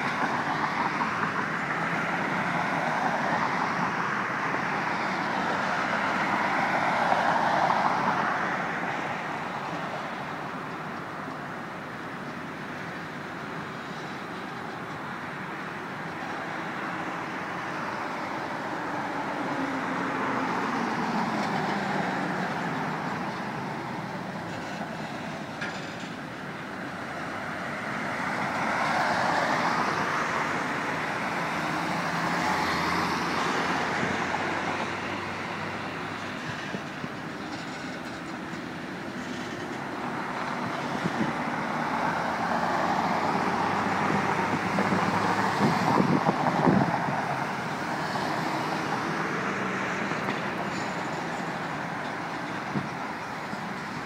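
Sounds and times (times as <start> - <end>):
road cars passing: 0.0 - 54.0.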